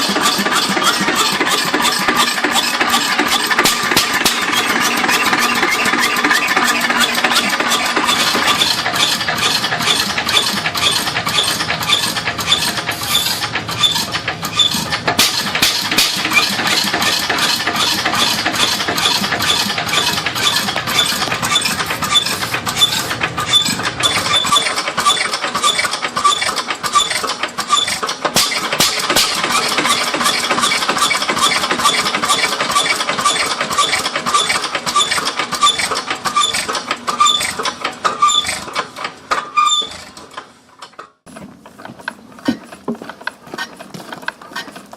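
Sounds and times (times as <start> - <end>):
old engine low rumble: 0.0 - 44.9
rhythmic mechanical clatter: 0.0 - 44.9.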